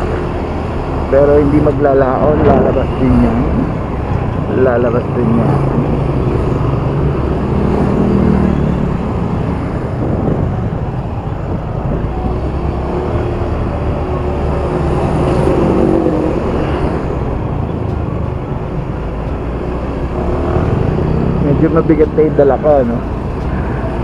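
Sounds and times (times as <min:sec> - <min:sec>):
road and traffic noise: 0:00.0 - 0:24.0.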